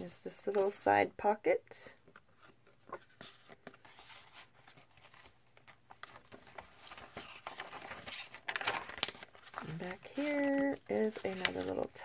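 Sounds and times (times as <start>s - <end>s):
paper rustling: 2.0s - 12.0s.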